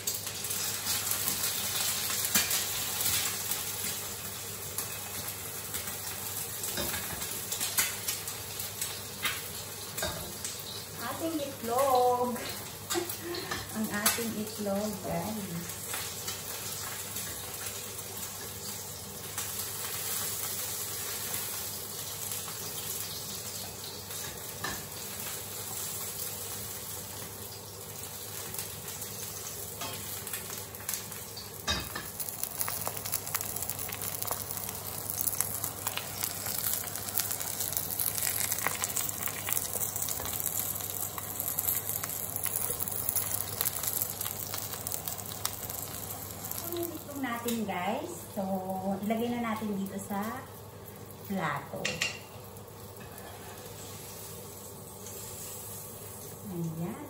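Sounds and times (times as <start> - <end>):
egg sizzling in hot oil: 0.0 - 57.0.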